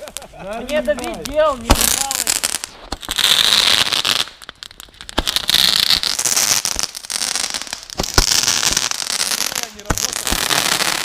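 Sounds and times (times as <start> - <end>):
fireworks crackling and hissing: 0.0 - 11.0
sharp pops: 0.7 - 11.0.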